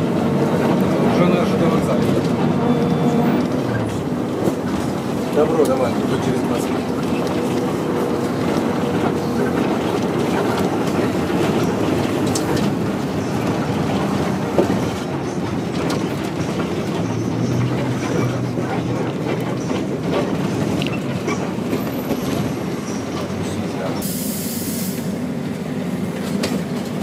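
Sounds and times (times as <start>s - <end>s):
engine and road rumble: 0.0s - 27.0s.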